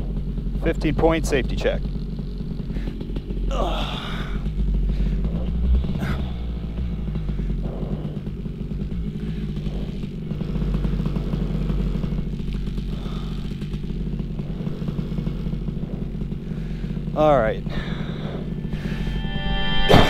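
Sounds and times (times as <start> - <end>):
two-stroke engine running: 0.0 - 20.0.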